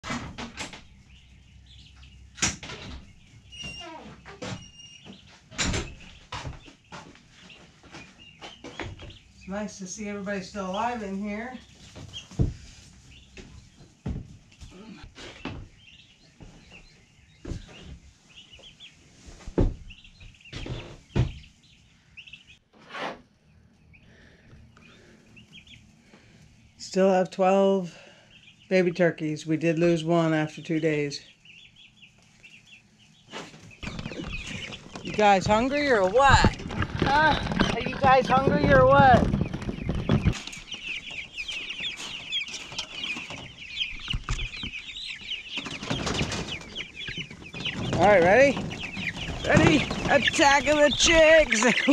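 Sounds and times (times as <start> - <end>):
turkey poults peeping: 0.1 - 51.9.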